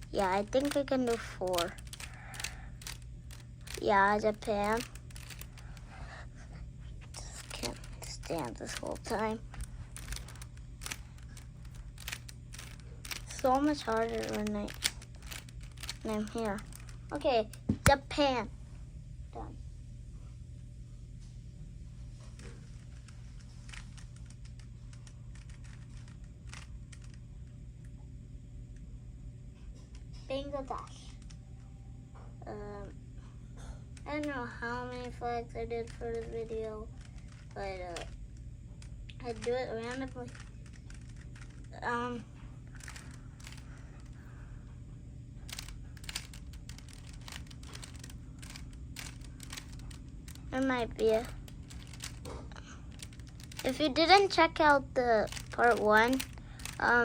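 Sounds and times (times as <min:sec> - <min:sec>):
small irregular clicks: 0:00.0 - 0:06.2, 0:06.8 - 0:18.3, 0:22.2 - 0:31.8, 0:32.8 - 0:44.8, 0:45.4 - 0:57.0
steady low hum: 0:00.0 - 0:57.0.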